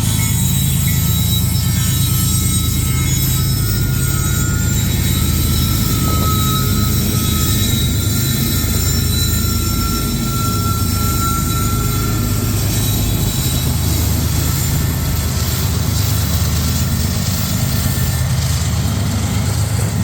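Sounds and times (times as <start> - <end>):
freight train rumbling past: 0.0 - 20.0
high-pitched squeal: 0.0 - 20.0.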